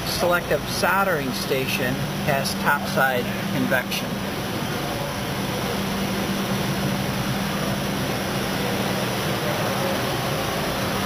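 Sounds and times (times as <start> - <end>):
soldering machine humming: 0.0 - 11.0.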